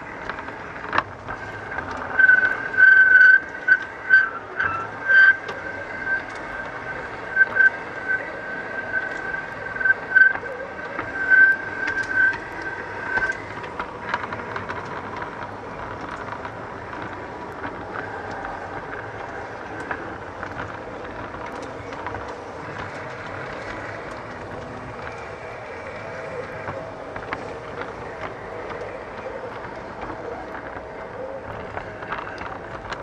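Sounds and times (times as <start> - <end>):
high steady squeal: 0.0 - 33.0
model train rolling rumble: 0.0 - 33.0
wheels clicking over rail joints: 0.0 - 33.0.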